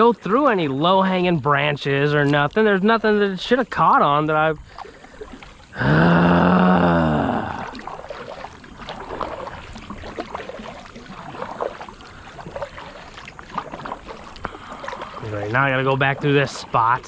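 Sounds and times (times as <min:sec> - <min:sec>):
kayak paddle splashes: 0:00.0 - 0:17.0.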